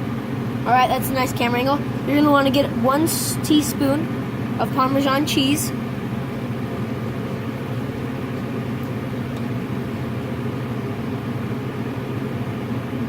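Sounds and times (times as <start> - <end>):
range hood fan running: 0.0 - 13.0.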